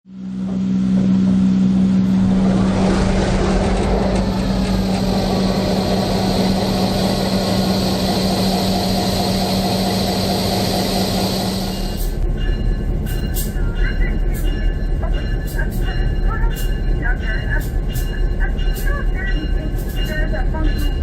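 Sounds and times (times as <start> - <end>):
diesel locomotive engine humming: 0.0 - 21.0.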